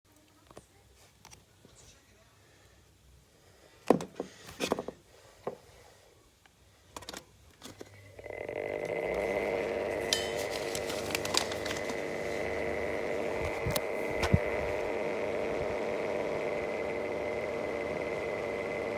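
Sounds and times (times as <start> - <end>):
exhaust fan humming with whine: 0.4 - 18.9.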